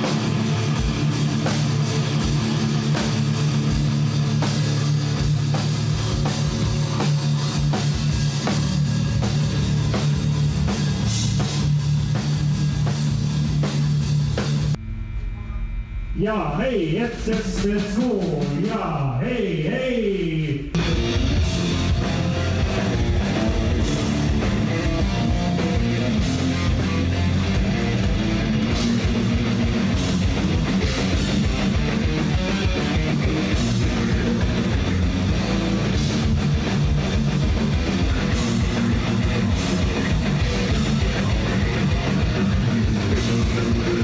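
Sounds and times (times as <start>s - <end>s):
fast drum kit: 0.0s - 14.8s, 16.2s - 19.8s, 20.7s - 44.0s
distorted electric guitars: 0.0s - 44.0s.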